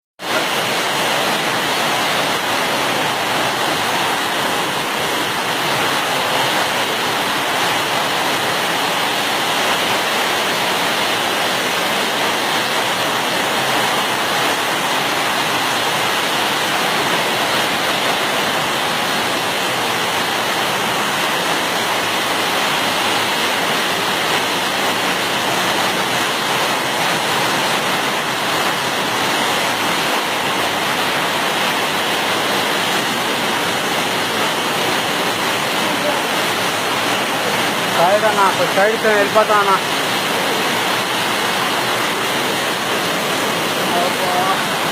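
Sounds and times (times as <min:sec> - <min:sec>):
floodwater rushing: 0:00.2 - 0:44.9.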